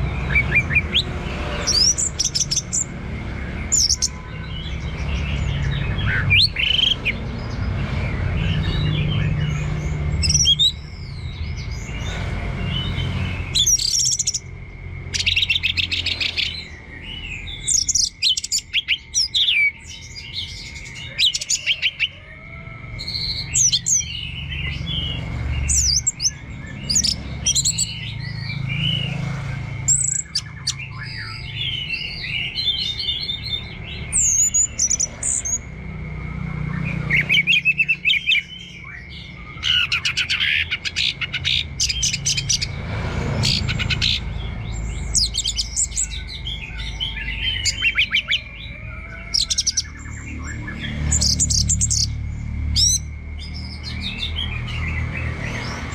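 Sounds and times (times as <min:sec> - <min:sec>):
thrush singing: 0:00.0 - 0:55.9.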